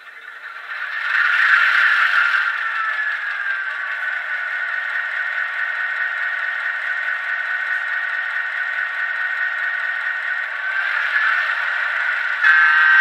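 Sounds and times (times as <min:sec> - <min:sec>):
tinny locomotive engine idle: 0:00.0 - 0:13.0.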